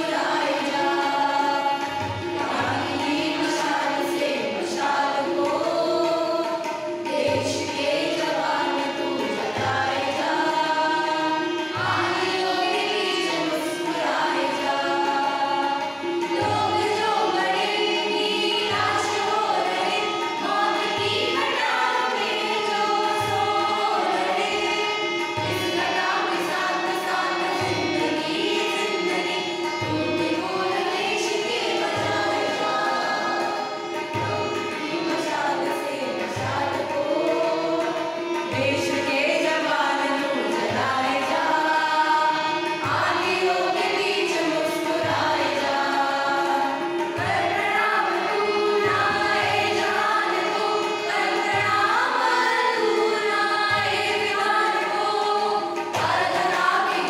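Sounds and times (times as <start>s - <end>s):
group singing in unison: 0.0s - 57.0s.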